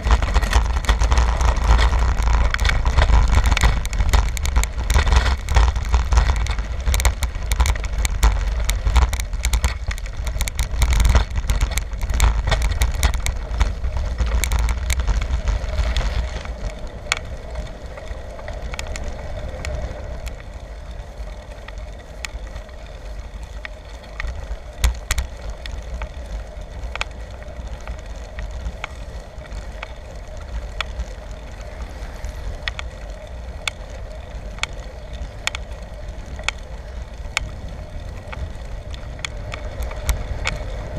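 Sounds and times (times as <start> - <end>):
bicycle rattling clicks: 0.0 - 40.9
bicycle rolling hum: 0.0 - 40.9
wind rumble on microphone: 0.0 - 40.9.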